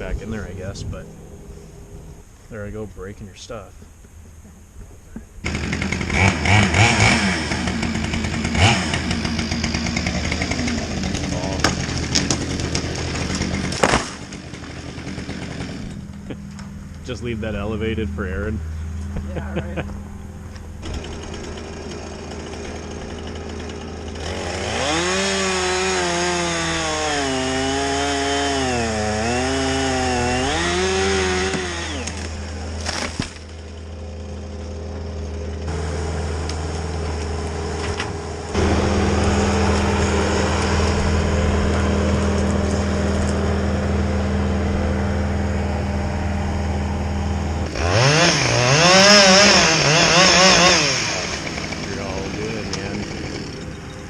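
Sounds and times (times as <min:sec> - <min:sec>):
engine running low: 0:00.0 - 0:54.0
chainsaw cutting wood: 0:05.4 - 0:16.7, 0:20.8 - 0:53.8.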